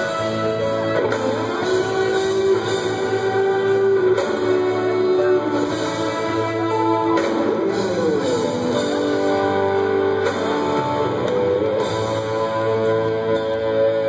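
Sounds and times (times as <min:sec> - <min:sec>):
electric guitar long notes: 0:00.0 - 0:14.0
live rock band playing: 0:00.0 - 0:14.0.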